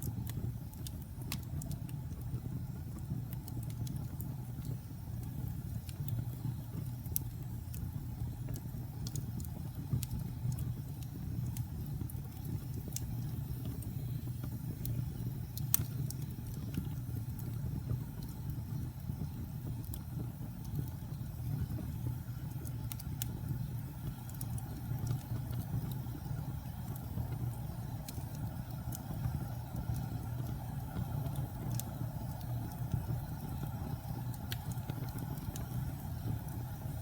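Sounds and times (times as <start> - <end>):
fire crackling: 0.0 - 37.0
fire low rumble: 0.0 - 37.0.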